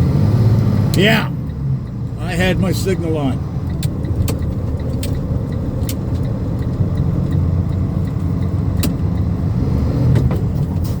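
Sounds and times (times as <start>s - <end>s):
truck engine low rumble: 0.0s - 11.0s.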